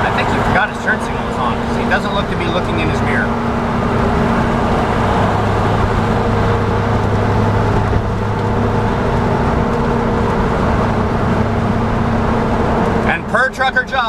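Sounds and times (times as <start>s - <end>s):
low hum: 0.0s - 13.1s
car road and engine noise: 0.0s - 14.0s.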